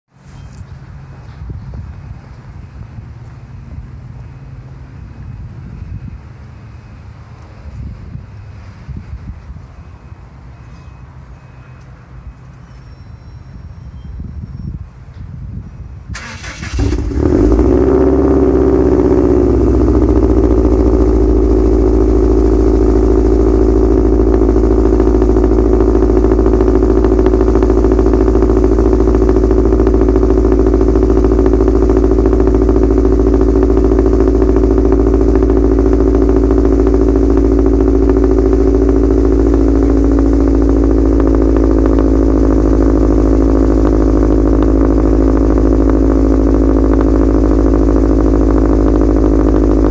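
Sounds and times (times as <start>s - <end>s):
car engine cold start and idle: 0.2s - 49.9s.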